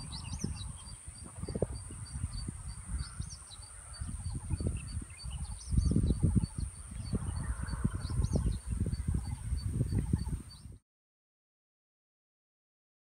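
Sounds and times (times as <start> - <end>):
small birds chirping: 0.0 - 10.8
wind buffeting microphone: 0.0 - 10.8.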